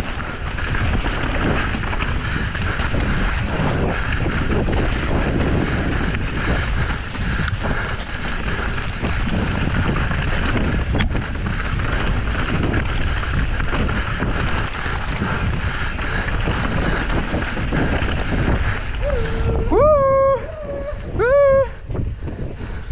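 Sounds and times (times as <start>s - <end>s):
tyres rumbling on stones: 0.0s - 19.4s
bike rattling: 0.0s - 22.9s
wind buffeting microphone: 0.0s - 22.9s.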